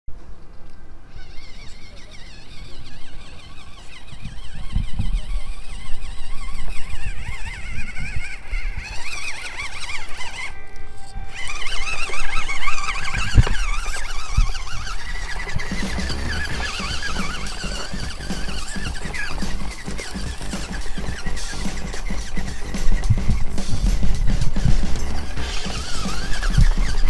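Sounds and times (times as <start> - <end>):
small electric motor whining: 0.6 - 27.0.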